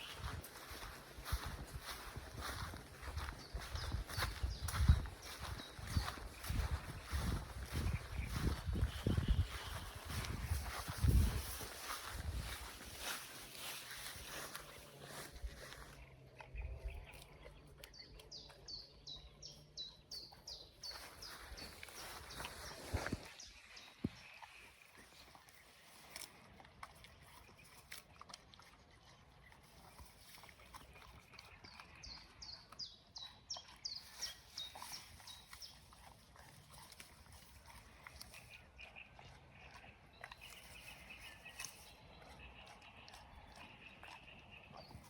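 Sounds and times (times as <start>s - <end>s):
songbird singing: 0.0s - 26.3s, 29.4s - 45.0s.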